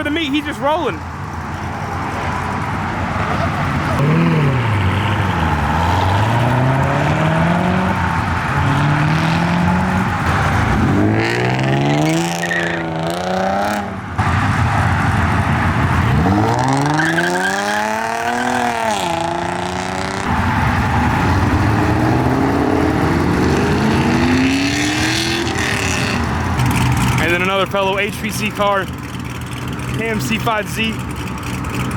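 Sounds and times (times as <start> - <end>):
car engines accelerating hard: 0.0 - 31.9.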